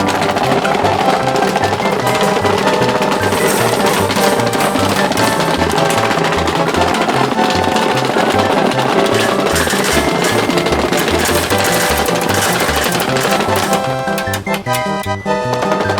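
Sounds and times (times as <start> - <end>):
steady drum beat: 0.0 - 15.9.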